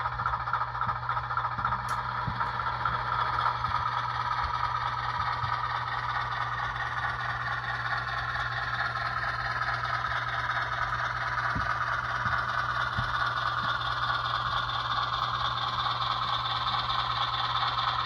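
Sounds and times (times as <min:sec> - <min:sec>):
model train hum: 0:00.0 - 0:18.0
wheels clicking on track: 0:00.0 - 0:18.0.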